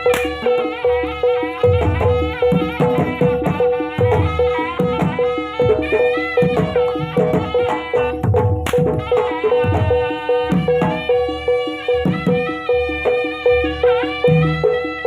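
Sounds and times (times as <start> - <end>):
drums: 0.0 - 15.0
reed pipe melody: 0.0 - 15.0.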